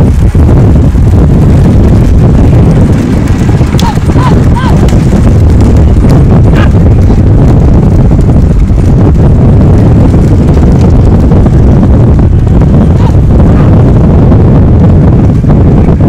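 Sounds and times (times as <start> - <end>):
cart running on road: 0.0 - 16.0
wind rushing on microphone: 0.0 - 16.0.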